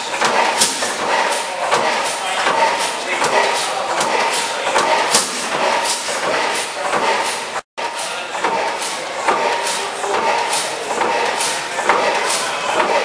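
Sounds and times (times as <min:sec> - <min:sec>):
gas engine running: 0:00.0 - 0:13.0.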